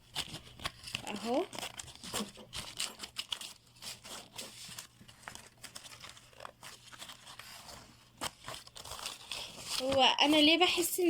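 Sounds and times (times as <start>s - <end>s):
yarn crackling and rustling: 0.2s - 10.9s.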